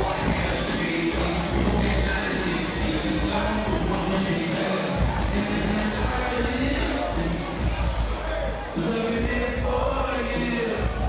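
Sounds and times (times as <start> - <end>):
hip-hop beat with heavy bass: 0.0 - 11.0
person rapping into a microphone: 0.0 - 11.0.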